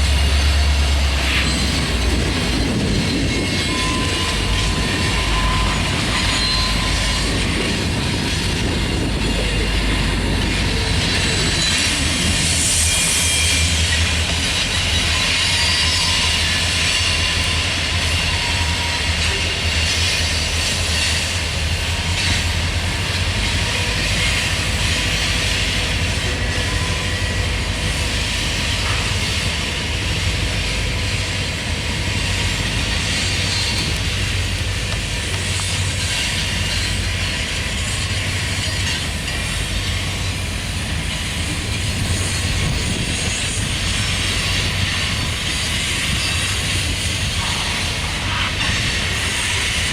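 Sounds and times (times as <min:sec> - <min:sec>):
freight train rumbling past: 0:00.0 - 0:49.9
wheels on rails: 0:00.0 - 0:49.9.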